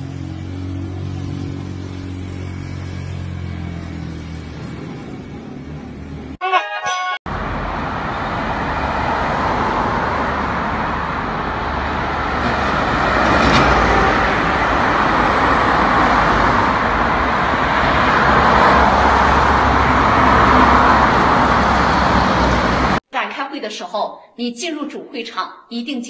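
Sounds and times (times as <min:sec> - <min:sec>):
street traffic rumble: 0:00.0 - 0:06.4, 0:07.3 - 0:23.0.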